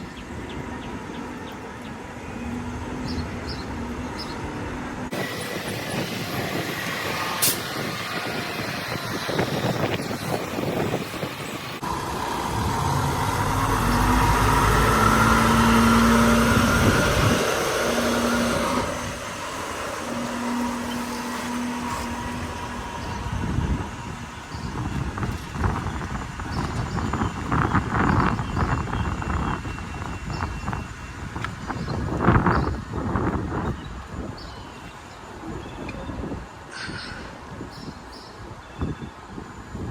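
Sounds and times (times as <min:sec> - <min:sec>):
diesel truck engine running: 0:00.2 - 0:33.7.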